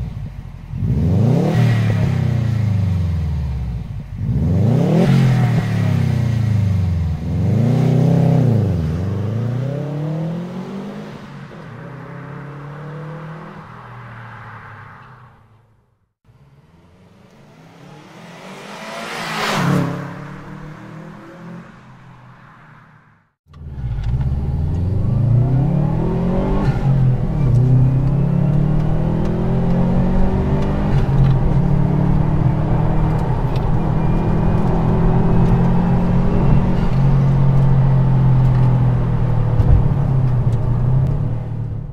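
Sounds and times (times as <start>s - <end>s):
car engine revving: 0.0s - 14.1s, 16.3s - 22.8s, 23.5s - 41.9s.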